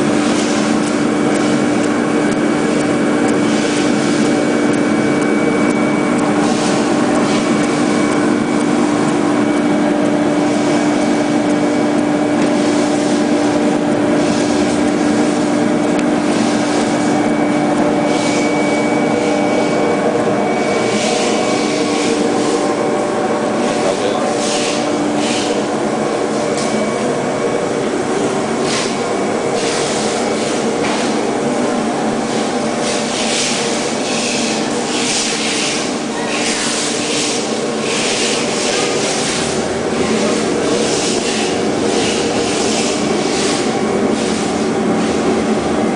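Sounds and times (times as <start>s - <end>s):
foam cutting machine hum: 0.0s - 45.9s.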